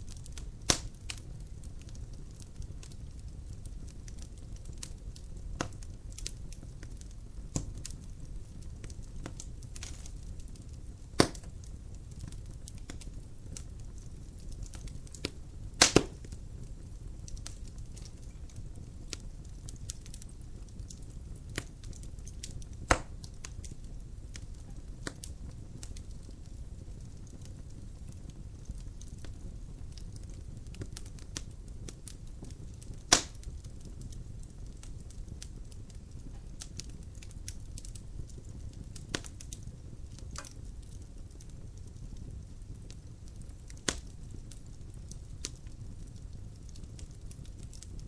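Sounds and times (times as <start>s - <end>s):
fire crackles and snaps: 0.0s - 48.0s
wood fire burning: 0.0s - 48.0s
loud fire pops: 0.1s - 42.0s, 42.8s - 48.0s.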